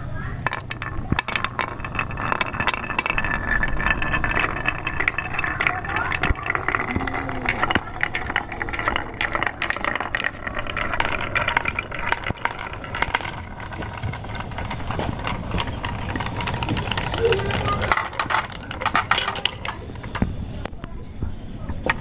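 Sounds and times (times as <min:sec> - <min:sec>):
marbles clicking against wood: 0:00.0 - 0:21.0, 0:21.7 - 0:22.0
marbles rolling on wooden tracks: 0:00.0 - 0:22.0.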